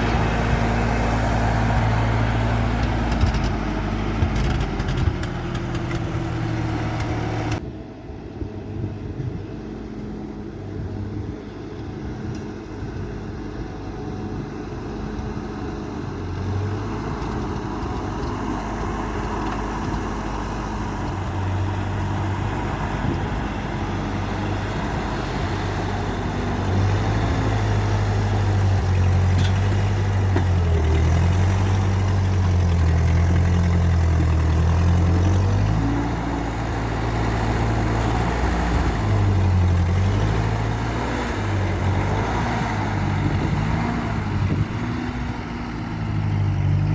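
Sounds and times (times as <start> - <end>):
tractor engine running: 0.0 - 7.6, 9.1 - 46.9.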